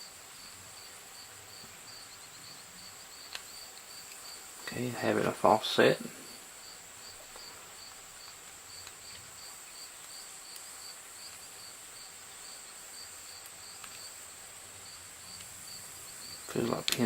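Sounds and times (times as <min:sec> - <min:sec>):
faint small ticks: 0:00.0 - 0:04.8, 0:06.2 - 0:17.0
high-pitched hiss: 0:00.0 - 0:17.0
insect chirping: 0:00.0 - 0:17.0.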